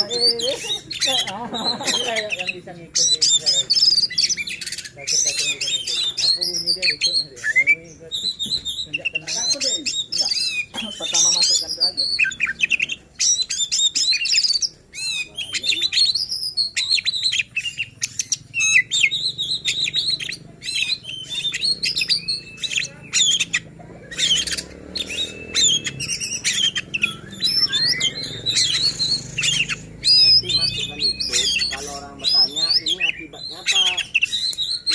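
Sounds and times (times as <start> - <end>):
songbird whistling and chirping: 0.0 - 34.9.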